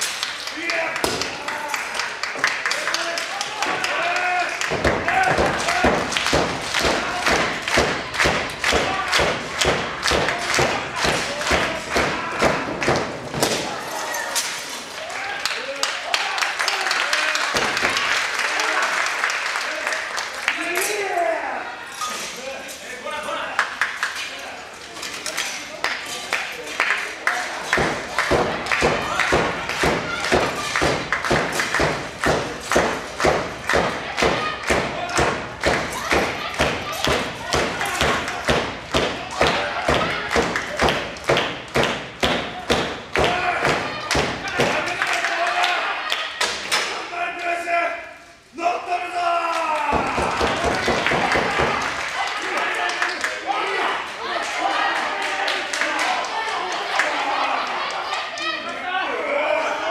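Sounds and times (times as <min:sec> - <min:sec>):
crowd pounding and clapping: 0:00.0 - 0:13.8, 0:14.7 - 0:21.1, 0:23.5 - 0:24.5, 0:25.3 - 0:47.1, 0:49.4 - 0:59.0.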